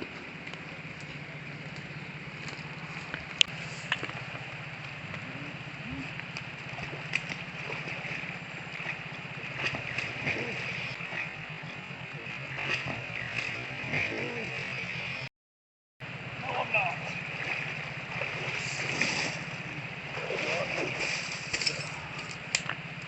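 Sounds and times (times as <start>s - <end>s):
engine idling: 0.0s - 15.3s, 16.0s - 23.0s.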